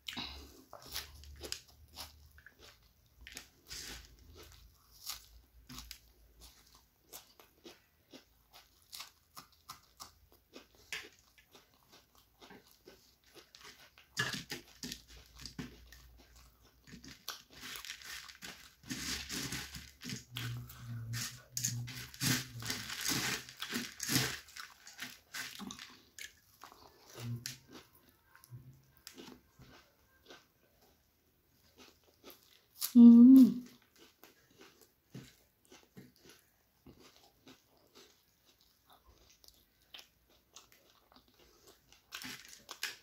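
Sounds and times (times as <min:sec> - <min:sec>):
chewing crunchy food: 0:00.0 - 0:43.0.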